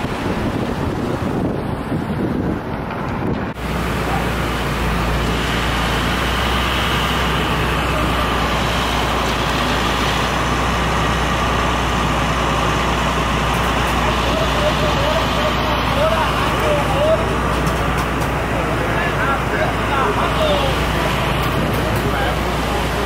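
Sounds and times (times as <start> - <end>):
city street traffic: 0.0 - 23.0
low engine rumble: 0.0 - 23.0.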